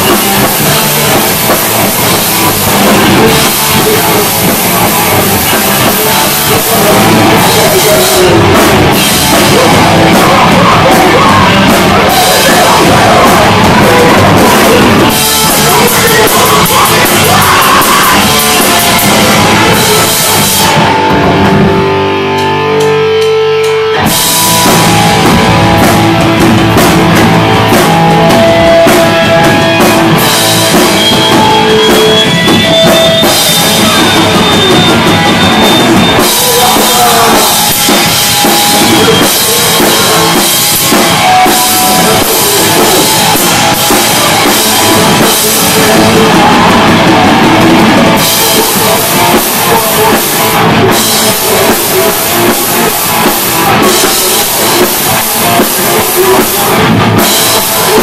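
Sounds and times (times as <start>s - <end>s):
drums: 0.0s - 58.0s
guitars ringing: 0.0s - 58.0s
rock band playing loud: 0.0s - 58.0s.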